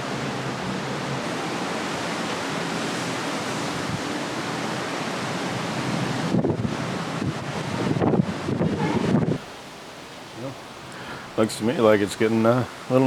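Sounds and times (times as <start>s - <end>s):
sea rushing: 0.0s - 13.0s
wind: 0.0s - 13.0s.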